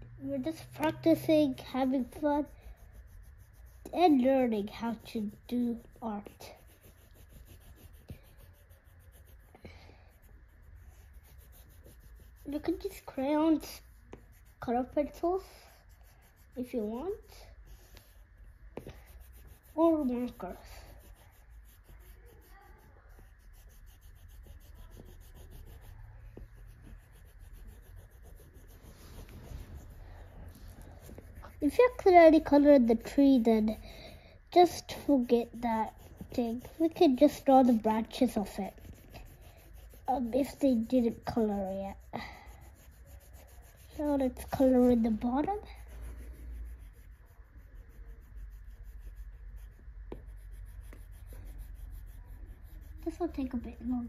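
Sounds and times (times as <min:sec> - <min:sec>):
pencil scratching on paper: 0:00.0 - 0:54.0.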